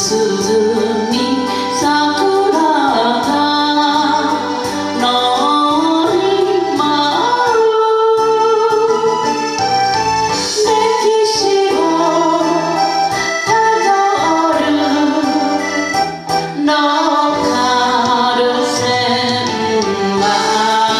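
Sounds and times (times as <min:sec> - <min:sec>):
woman singing with vibrato: 0:00.0 - 0:09.4, 0:10.4 - 0:20.9
instrumental backing music: 0:00.0 - 0:20.9.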